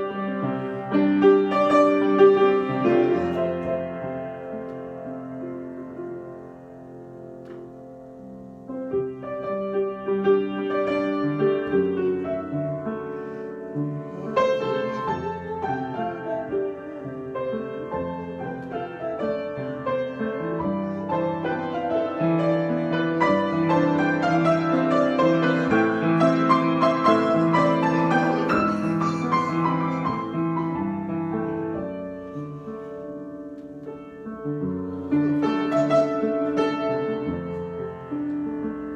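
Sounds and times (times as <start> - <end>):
solo piano: 0.0 - 38.9.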